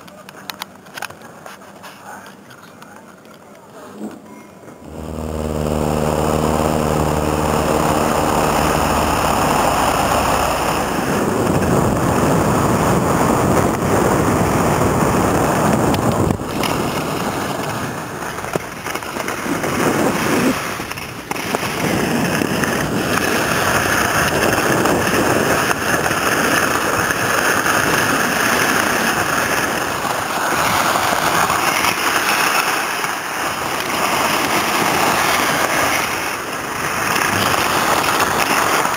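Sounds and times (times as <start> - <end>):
wind buffeting microphone: 4.8 - 38.9
skis sliding over snow: 6.0 - 38.9.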